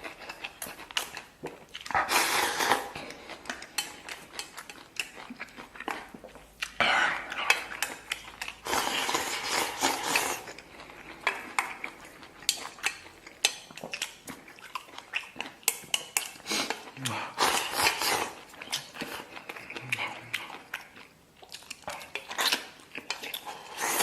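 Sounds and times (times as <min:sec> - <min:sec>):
chewing and mouth noises: 0:00.0 - 0:24.0.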